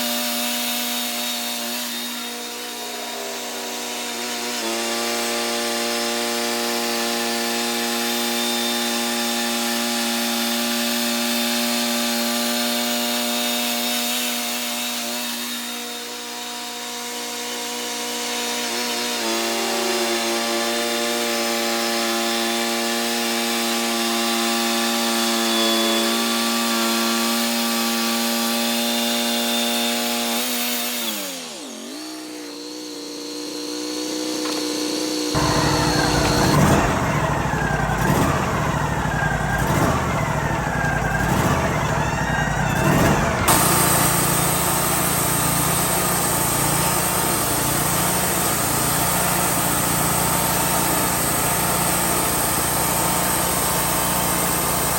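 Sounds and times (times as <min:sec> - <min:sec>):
band blade cutting log: 0:00.0 - 0:54.9
sawmill engine hum: 0:00.0 - 0:54.9.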